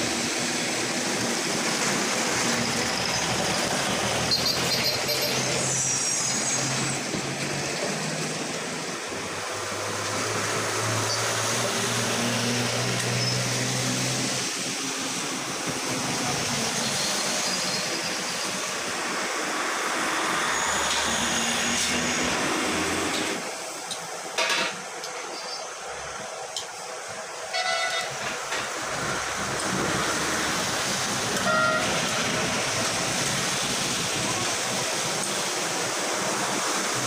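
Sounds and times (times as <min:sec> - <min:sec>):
street traffic noise: 0:00.0 - 0:37.0.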